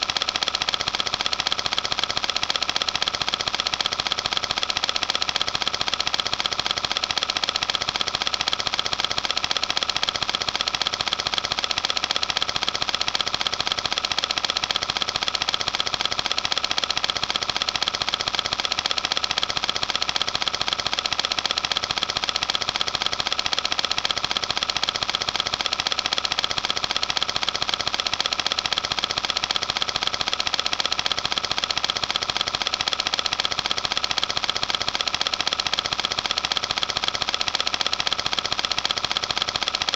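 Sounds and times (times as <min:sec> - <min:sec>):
fast mechanical clatter: 0:00.0 - 0:39.9.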